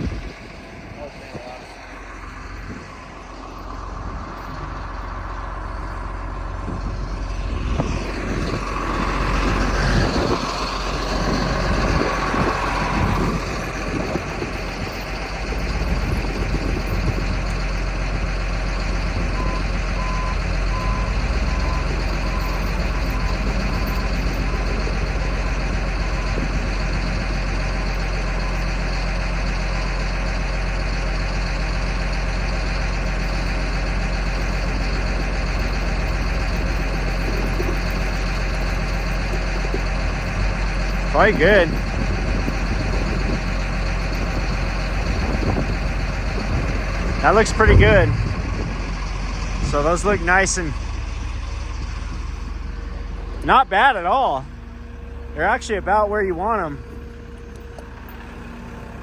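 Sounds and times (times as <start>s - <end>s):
wheel loader diesel engine running: 0.0s - 59.0s.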